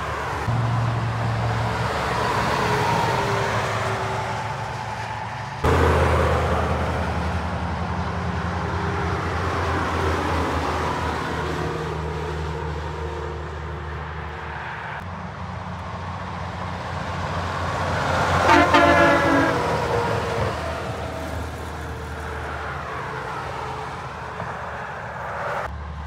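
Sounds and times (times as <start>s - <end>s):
truck engine drone: 0.0s - 26.0s
tyre and road noise: 0.0s - 26.0s.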